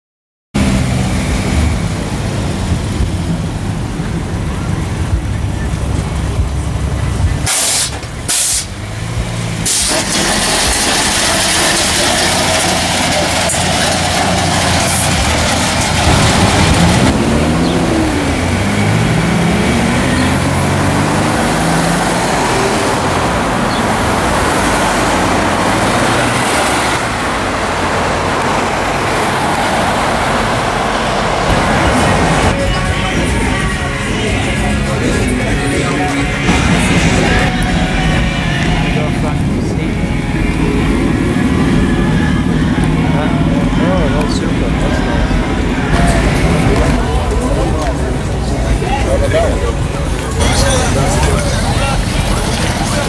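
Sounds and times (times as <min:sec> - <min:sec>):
street traffic passing: 0:00.6 - 0:53.0
engine revving: 0:08.9 - 0:53.0.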